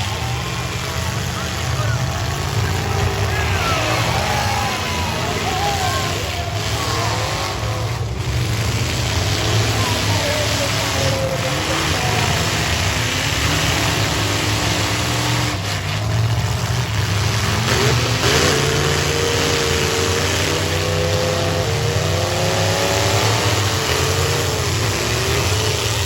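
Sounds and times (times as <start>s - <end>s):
car engines revving: 0.0s - 26.0s
constant noisy din: 0.0s - 26.0s.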